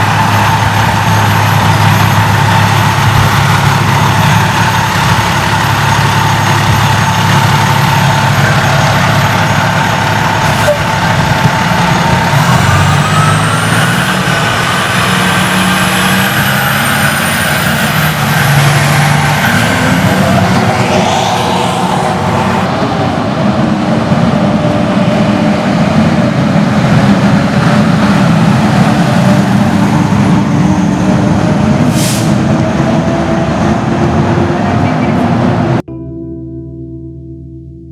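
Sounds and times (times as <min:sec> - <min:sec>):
fire truck diesel engines accelerating: 0:00.0 - 0:35.9.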